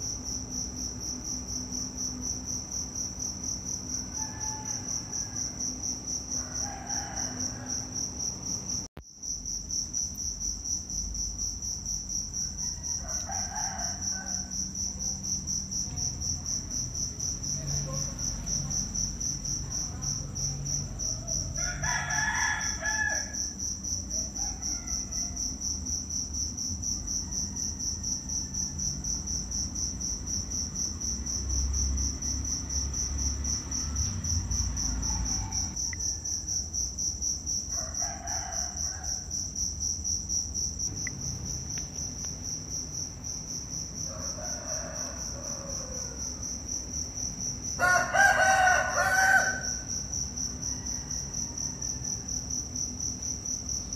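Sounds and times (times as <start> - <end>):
shrill insect trill: 0.0 - 53.9.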